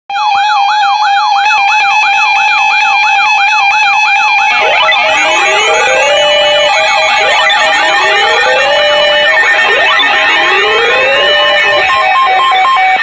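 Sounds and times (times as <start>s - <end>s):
electronic siren alarm yelping: 0.1s - 13.0s.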